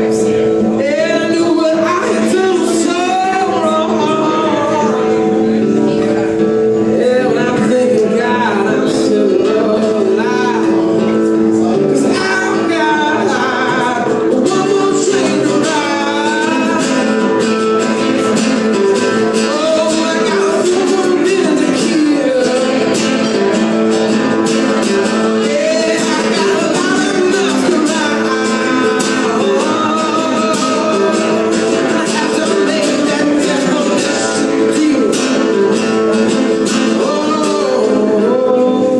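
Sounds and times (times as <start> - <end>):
acoustic guitar strumming: 0.0 - 38.9
man singing: 0.0 - 38.9
second guitar playing: 0.0 - 38.9.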